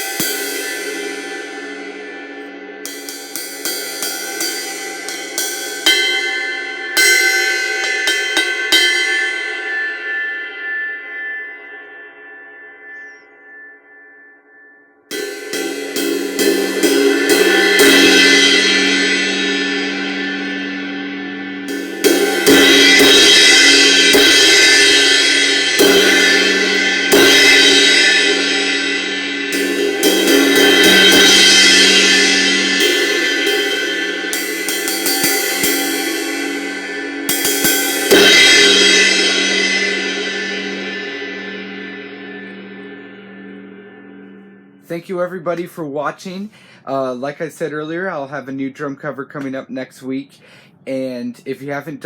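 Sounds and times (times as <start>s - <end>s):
crash cymbal struck and ringing: 0.0s - 45.0s.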